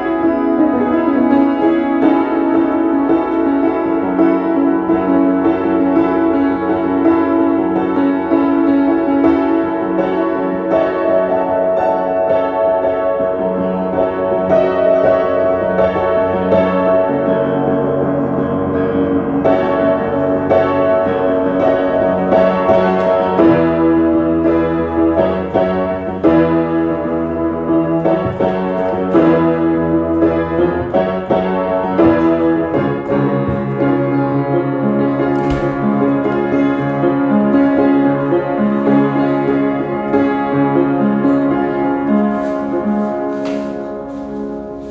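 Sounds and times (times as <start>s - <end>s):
piano playing chords: 0.0s - 44.9s.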